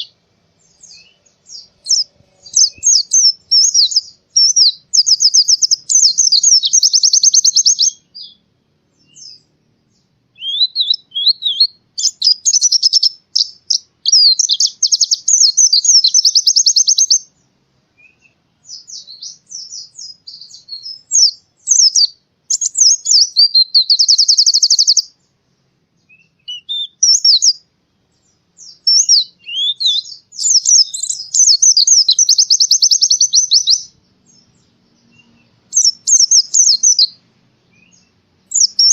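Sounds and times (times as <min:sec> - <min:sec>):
bird twittering and trilling: 0:00.0 - 0:38.9.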